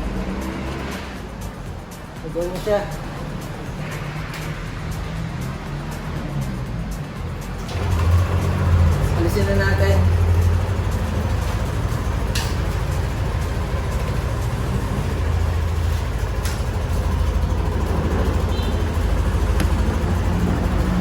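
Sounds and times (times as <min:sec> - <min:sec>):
scooter engine idling: 0:00.0 - 0:21.0.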